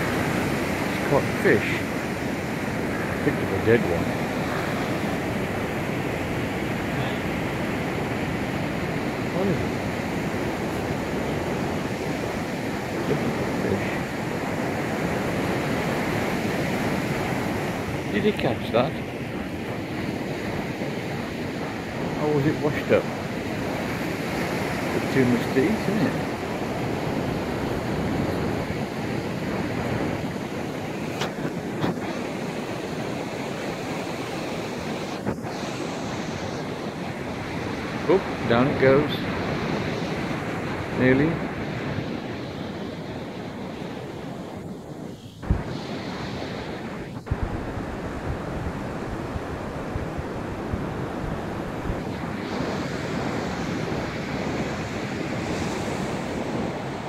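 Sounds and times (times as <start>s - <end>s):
surf washing on sandy beach: 0.0s - 57.0s
wind buffeting microphone: 0.0s - 57.0s.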